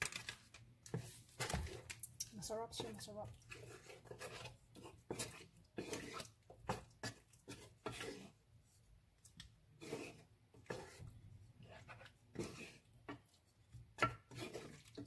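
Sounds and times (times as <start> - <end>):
wooden spoon scraping a pan: 0.9 - 15.0.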